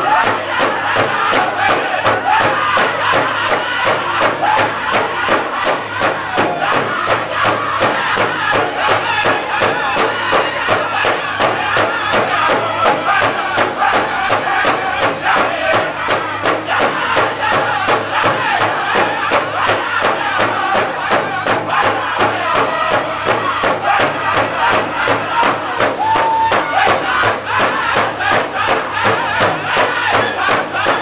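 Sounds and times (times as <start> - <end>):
big drum steady beat: 0.0 - 31.0
group singing in high voices: 0.0 - 31.0.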